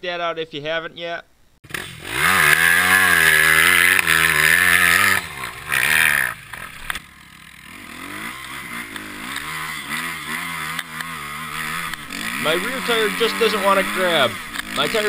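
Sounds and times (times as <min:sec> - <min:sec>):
dirt bike engine revving: 0:01.6 - 0:15.0.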